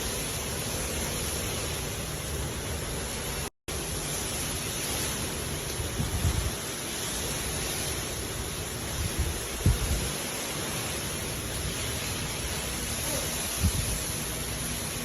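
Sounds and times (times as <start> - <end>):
hard rain falling: 0.0 - 15.0.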